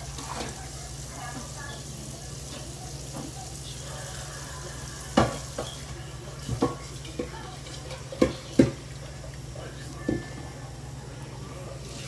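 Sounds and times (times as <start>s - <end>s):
egg sizzling in a skillet: 0.0s - 10.0s.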